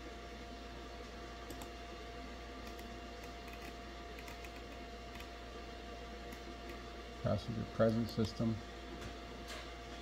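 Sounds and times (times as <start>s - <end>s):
faint hum and hiss: 0.0s - 10.0s.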